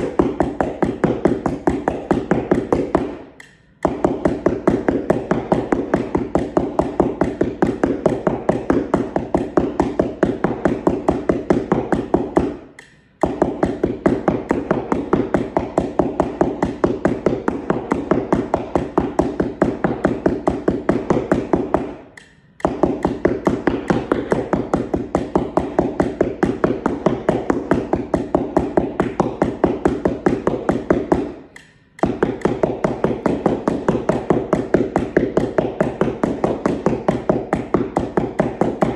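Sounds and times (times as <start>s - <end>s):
mallets tapping cardboard: 0.0s - 38.9s.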